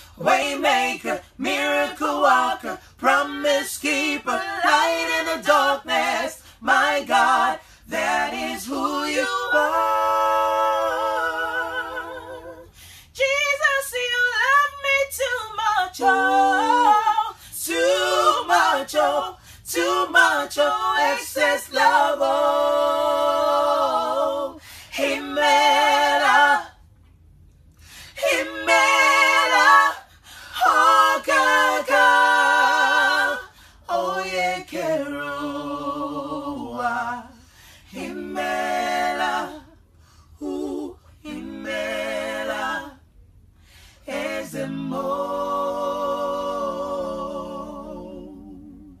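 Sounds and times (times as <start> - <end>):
vocal trio singing in harmony: 0.0 - 49.0.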